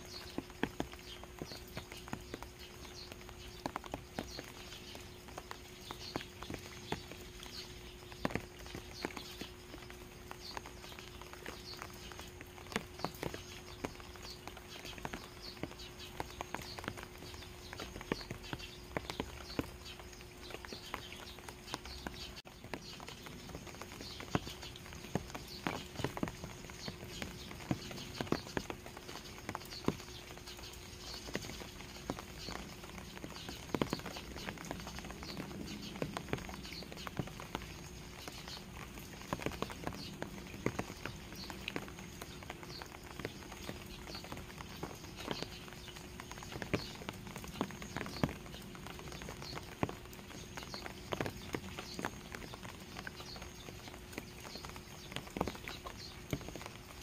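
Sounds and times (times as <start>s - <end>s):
steady light rain: 0.0s - 57.0s
water dripping onto stones: 0.0s - 57.0s.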